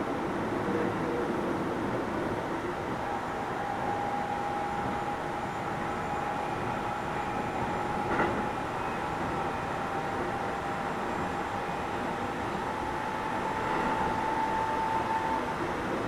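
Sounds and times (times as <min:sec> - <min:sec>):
train wheels rumbling on rail: 0:00.1 - 0:16.0.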